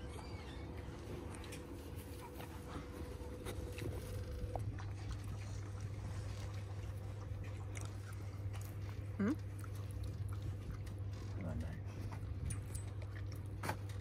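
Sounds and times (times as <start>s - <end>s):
steady low hum: 0.0s - 14.0s
man chewing: 1.1s - 11.4s, 12.0s - 14.0s.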